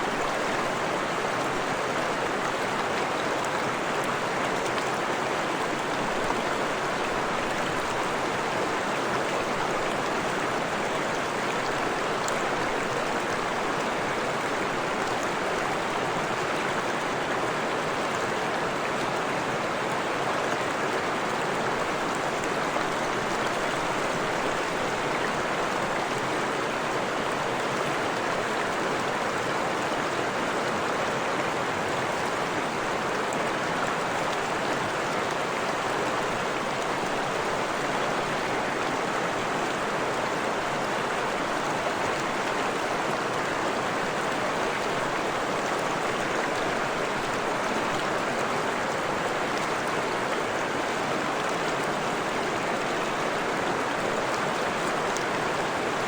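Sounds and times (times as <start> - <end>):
stream flowing and splashing: 0.0 - 56.0.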